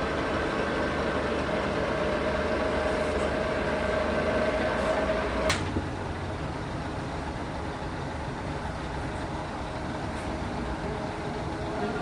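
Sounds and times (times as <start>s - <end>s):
sawmill machinery drone: 0.0s - 12.0s.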